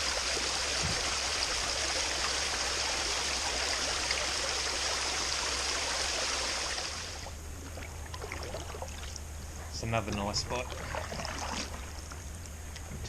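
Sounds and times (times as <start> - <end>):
running water rushing: 0.0 - 12.4.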